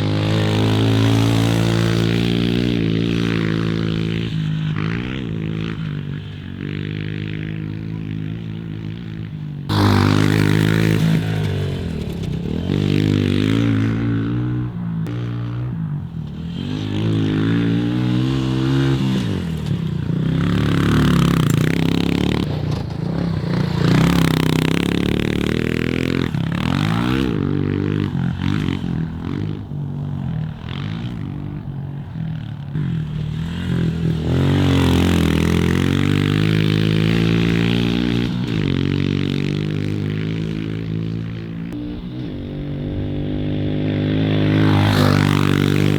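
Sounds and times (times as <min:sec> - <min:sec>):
motorbike engine revving: 0:00.0 - 0:45.9.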